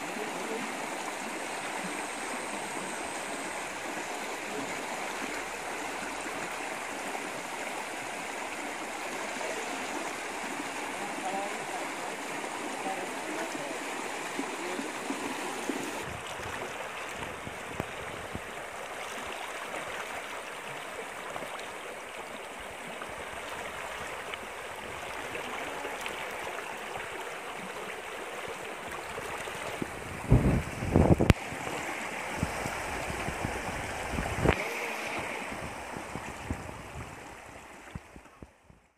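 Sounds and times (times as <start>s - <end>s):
river rushing over rocks: 0.0s - 38.2s.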